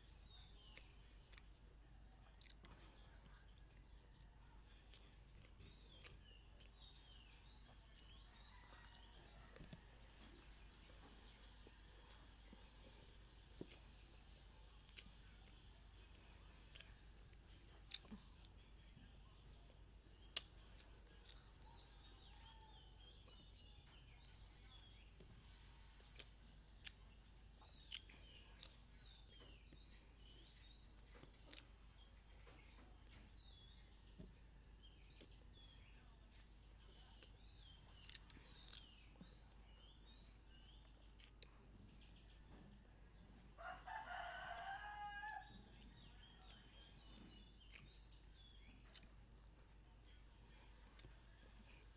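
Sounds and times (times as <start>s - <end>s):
small birds chirping faintly: 0.0s - 51.9s.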